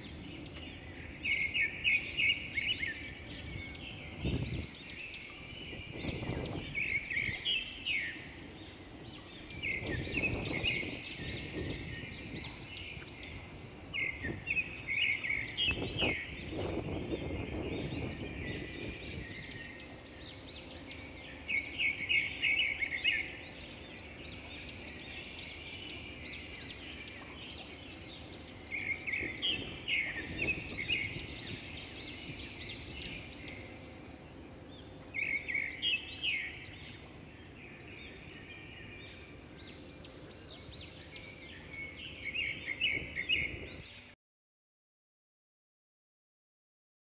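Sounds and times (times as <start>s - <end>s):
low city hum: 0.0s - 43.8s
songbirds chirping: 0.0s - 44.2s.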